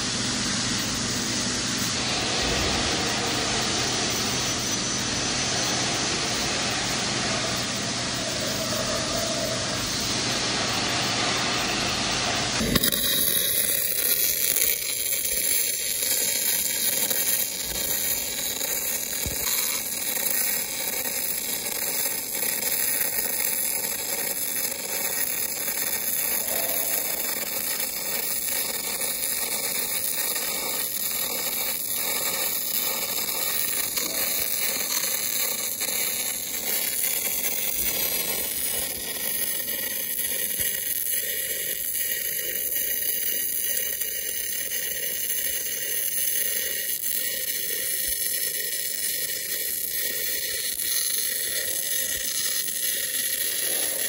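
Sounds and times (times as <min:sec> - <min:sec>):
welding arc hissing: 0:00.0 - 0:54.0.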